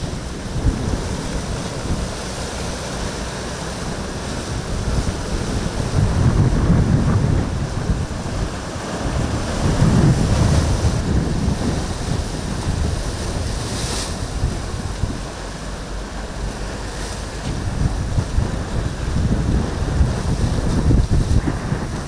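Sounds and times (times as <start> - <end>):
choppy surf rushing: 0.0 - 22.0
wind buffeting microphone: 0.0 - 22.0.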